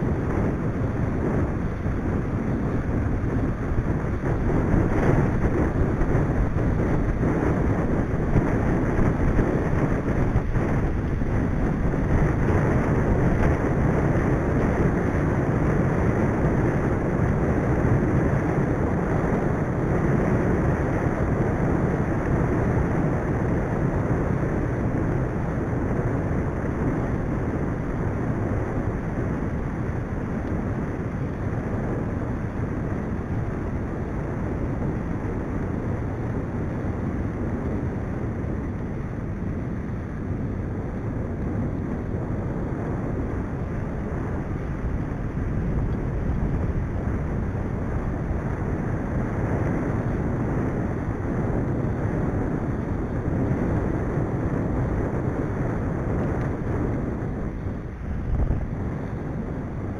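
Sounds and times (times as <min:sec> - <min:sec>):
bike tyres rumbling on tarmac: 0:00.0 - 0:59.9
wind buffeting microphone: 0:00.0 - 0:59.9.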